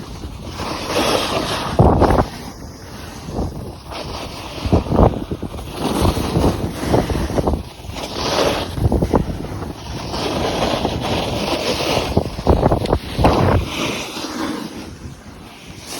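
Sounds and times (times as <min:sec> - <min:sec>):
wind buffeting microphone: 0:00.0 - 0:14.1.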